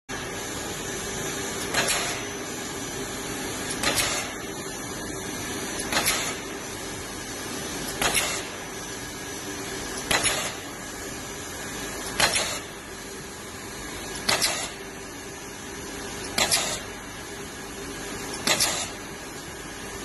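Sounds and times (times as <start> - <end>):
machine running: 0.1 - 20.0.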